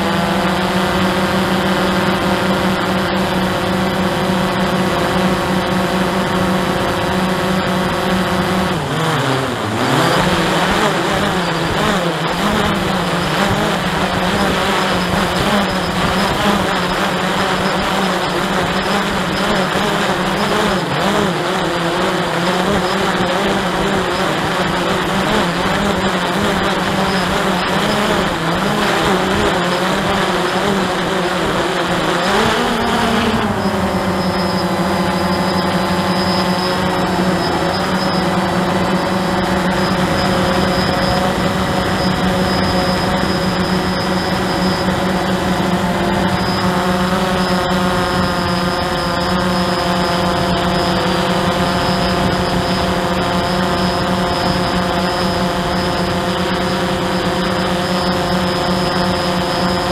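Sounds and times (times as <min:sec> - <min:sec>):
quadcopter propellers buzzing: 0:00.0 - 0:59.9.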